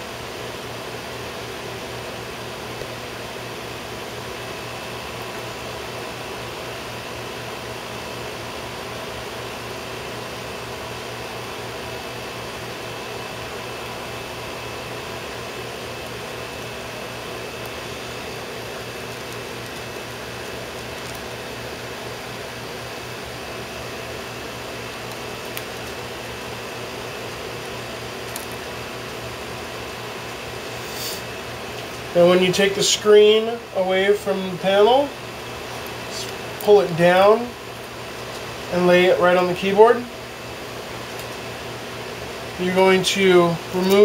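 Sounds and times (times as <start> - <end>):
fan humming: 0.0 - 44.0.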